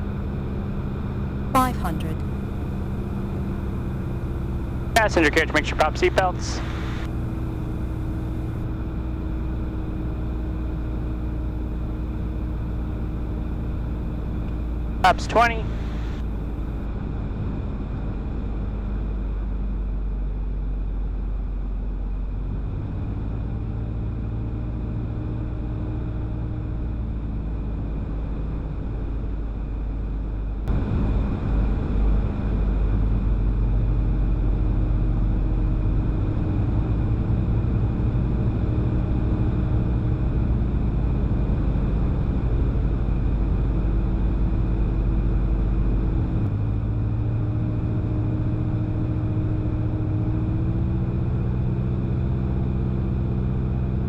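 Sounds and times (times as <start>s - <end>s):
aircraft engine and propeller: 0.0s - 54.0s.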